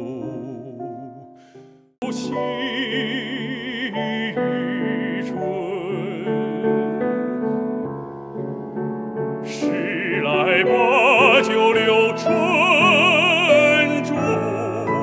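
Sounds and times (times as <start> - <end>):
man singing operatic phrase: 0.0 - 1.4, 2.0 - 7.2, 9.4 - 15.0.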